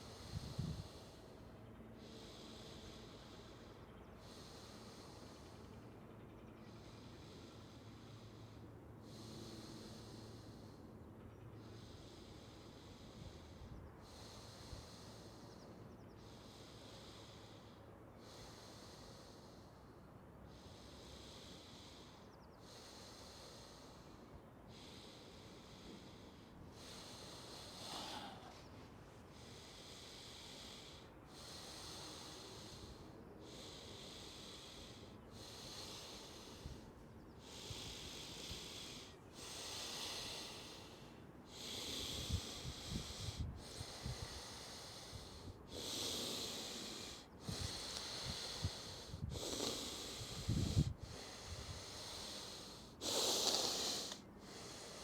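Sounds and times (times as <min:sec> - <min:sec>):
deep rhythmic breathing: 0:00.0 - 0:55.0.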